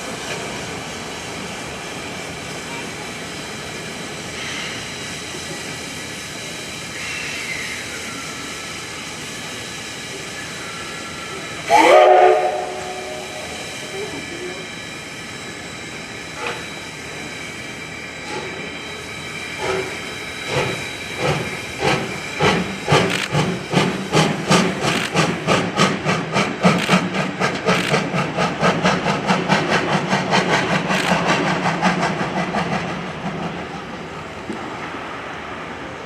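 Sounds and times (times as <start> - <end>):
steady hiss of steam: 0.0 - 36.0
steam locomotive chuffing: 0.0 - 36.0.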